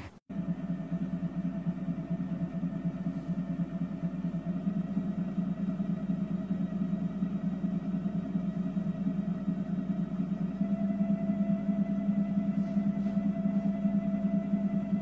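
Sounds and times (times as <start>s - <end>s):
vibration plate buzzing hum: 0.0s - 15.0s.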